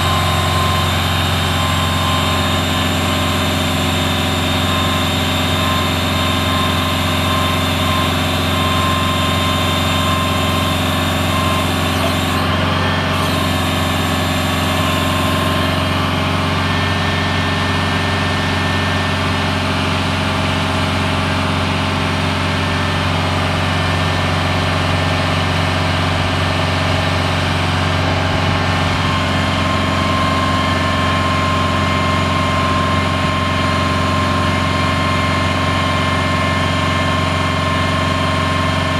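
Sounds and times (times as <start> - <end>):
hydraulic crane whine: 0.0 - 38.9
truck engine idling: 0.0 - 38.9.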